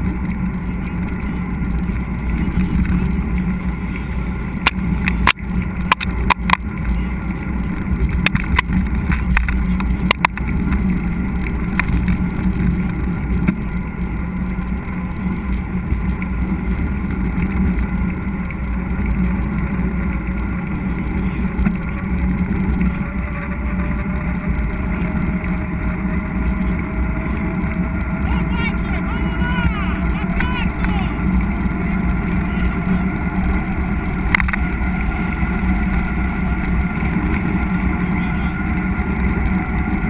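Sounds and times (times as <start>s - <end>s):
wind noise on camera: 0.0s - 28.9s, 29.6s - 40.0s
mountain bike rumble on dirt: 0.0s - 29.1s, 31.1s - 40.0s.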